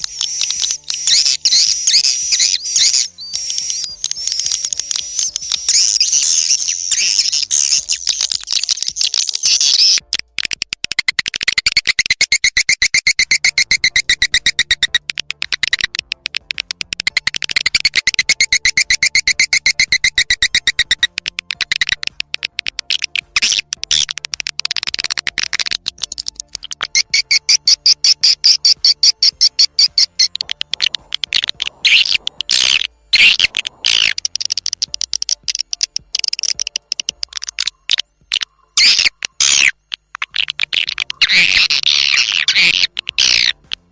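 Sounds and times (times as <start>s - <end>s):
swiftlets twittering: 0.0s - 43.9s.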